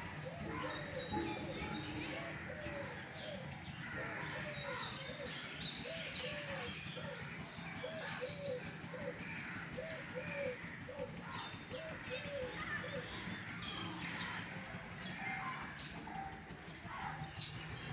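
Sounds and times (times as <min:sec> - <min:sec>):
dove cooing: 0:00.0 - 0:14.4.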